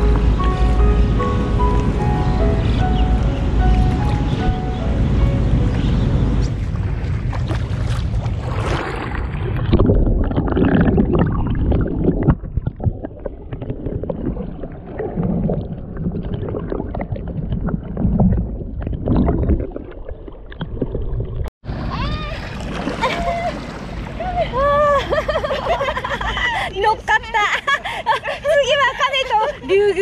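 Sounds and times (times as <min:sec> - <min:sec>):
muffled underwater water rumble: 0:00.0 - 0:24.9.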